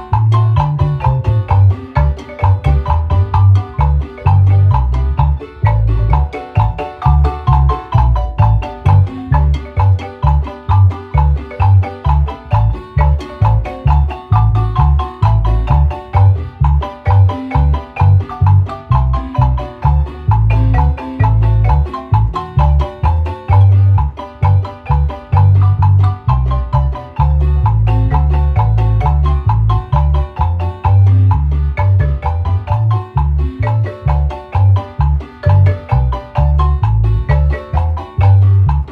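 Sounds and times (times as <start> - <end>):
deep bass notes: 0.0 - 38.9
marimba mallet notes: 0.0 - 38.9.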